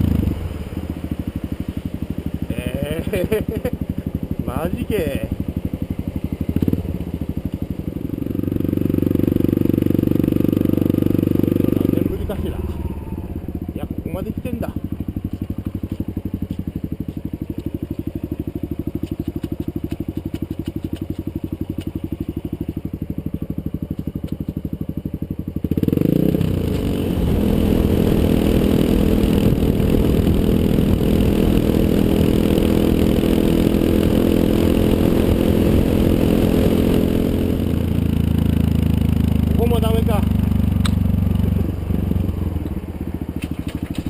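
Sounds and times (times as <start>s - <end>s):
motorcycle engine idling and revving: 0.0s - 44.0s.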